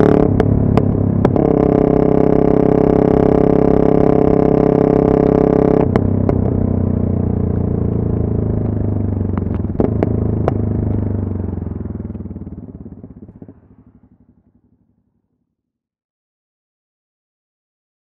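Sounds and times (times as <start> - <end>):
motorcycle engine revs falling: 0.0 - 14.8.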